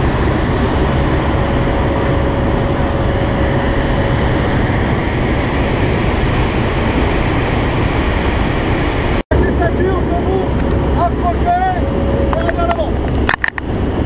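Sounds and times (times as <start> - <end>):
aircraft engine and propeller drone: 0.0 - 14.0.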